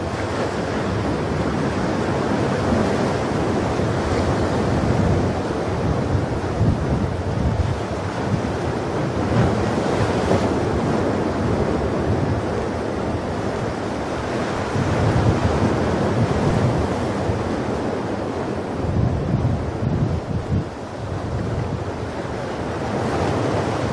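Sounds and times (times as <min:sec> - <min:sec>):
ocean surf on shore: 0:00.0 - 0:23.9
wind buffeting microphone: 0:00.0 - 0:23.9.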